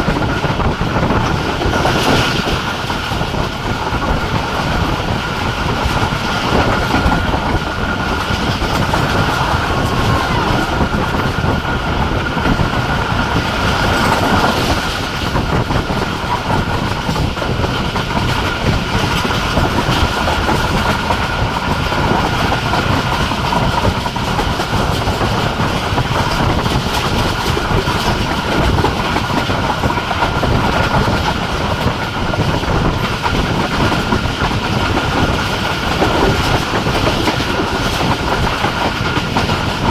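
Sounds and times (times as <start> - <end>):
clickety-clack over rail joints: 0.0 - 39.9
train wheels on rails: 0.0 - 39.9.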